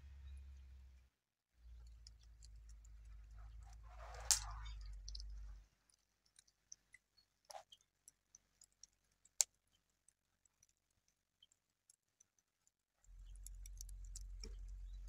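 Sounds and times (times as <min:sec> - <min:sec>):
faint clicks and pops: 0:01.6 - 0:15.0.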